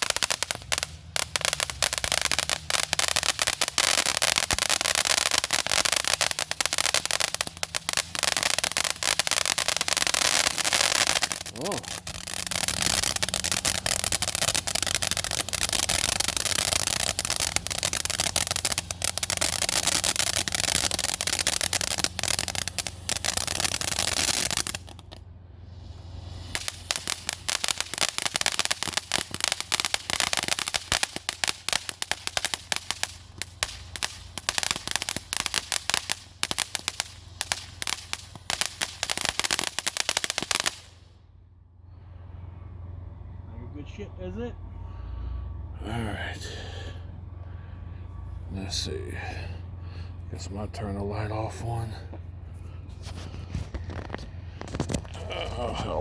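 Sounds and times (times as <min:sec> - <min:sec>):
firework fountain hissing and crackling: 0:00.0 - 0:41.2, 0:48.5 - 0:49.5, 0:50.2 - 0:56.0.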